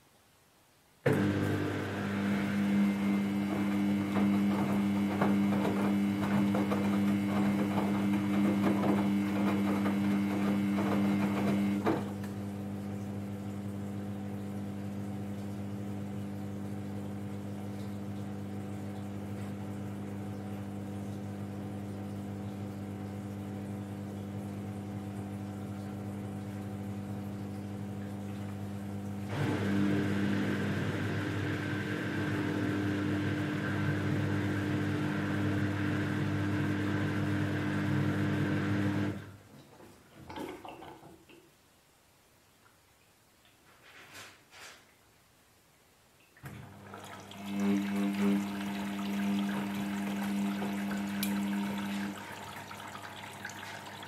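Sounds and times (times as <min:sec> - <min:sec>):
washing machine motor humming: 0:01.1 - 0:41.0, 0:46.4 - 0:54.0.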